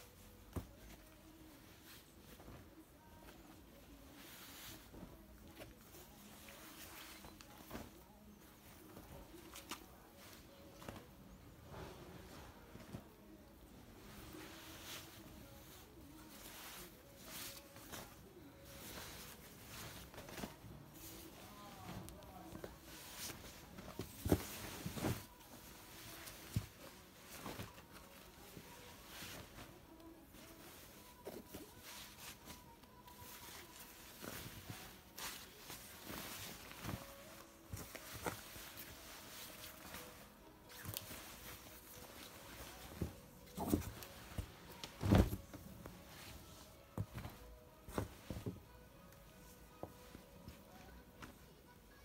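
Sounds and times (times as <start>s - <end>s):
synthetic jackets rustling: 0.0s - 48.7s.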